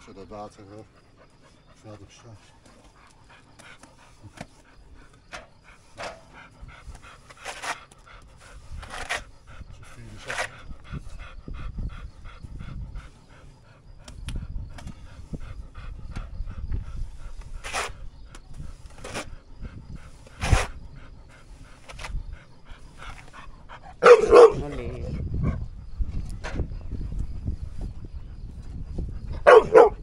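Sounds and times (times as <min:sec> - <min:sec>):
dog panting: 0:00.1 - 0:30.0.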